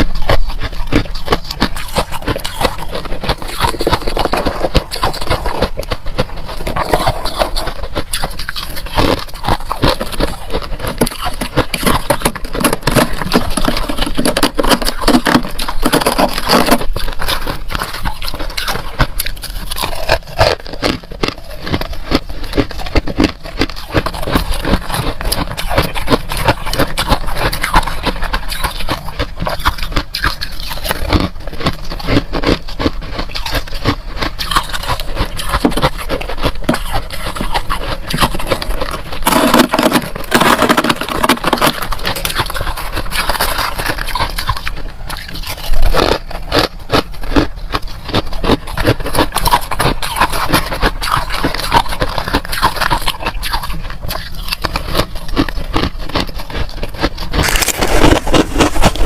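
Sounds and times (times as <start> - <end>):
frost being chewed crunching: 0.0 - 59.0.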